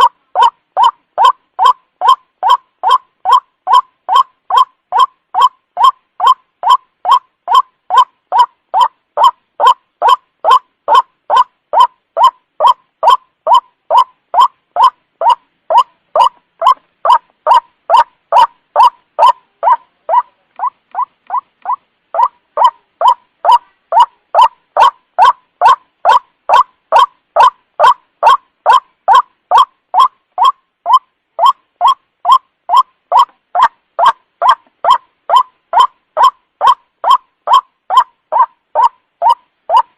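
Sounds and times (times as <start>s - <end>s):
waterhen calling kwak: 0.0s - 39.9s.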